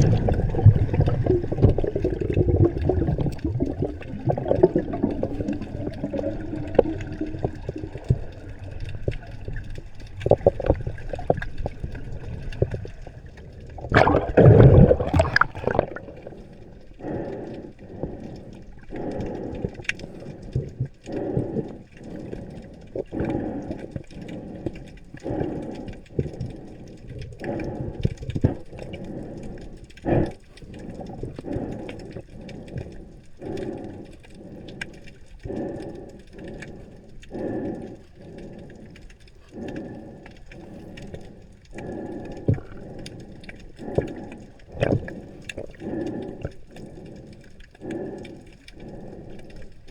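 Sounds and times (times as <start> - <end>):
water sloshing underwater: 0.0 - 49.9.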